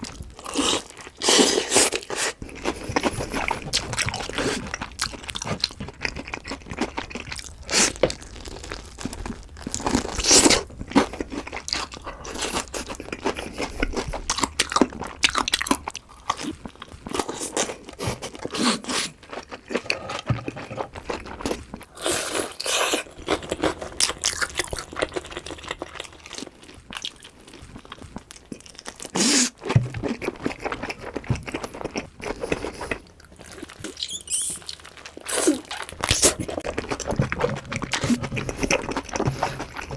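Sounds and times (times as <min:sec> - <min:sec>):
chewing: 0:00.0 - 0:39.9
crunching fried chicken: 0:00.0 - 0:39.9.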